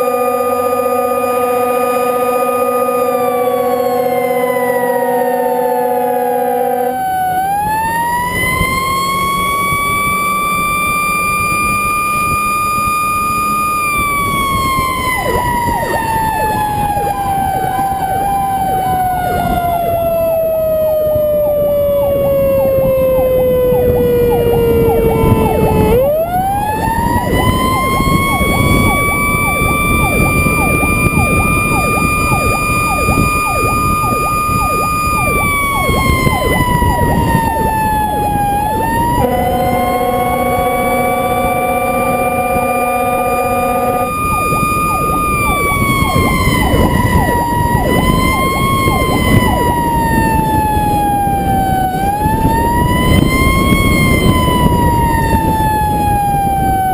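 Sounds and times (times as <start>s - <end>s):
low steady tone: 0.0s - 51.9s
fire truck siren wailing: 0.0s - 56.9s
truck engine rumble: 0.0s - 56.9s
wind noise: 0.0s - 56.9s.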